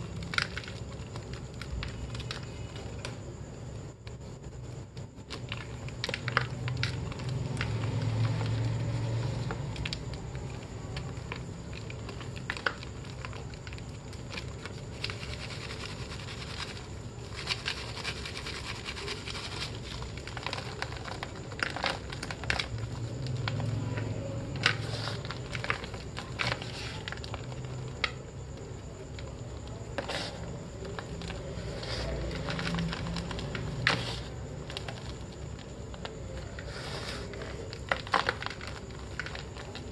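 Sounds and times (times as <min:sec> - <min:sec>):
chalk crumbs pattering: 0:05.3 - 0:39.9.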